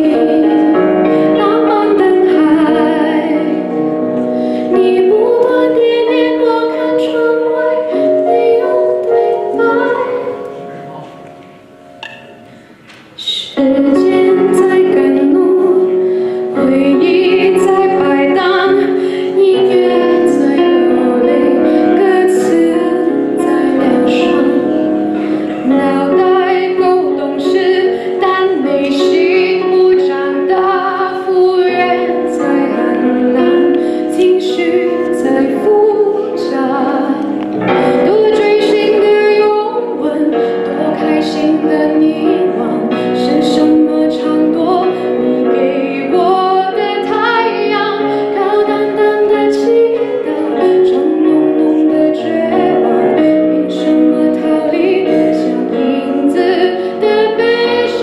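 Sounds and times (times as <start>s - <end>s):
woman singing into microphone: 0.0s - 10.6s, 13.2s - 58.0s
pop music accompaniment: 0.0s - 58.0s.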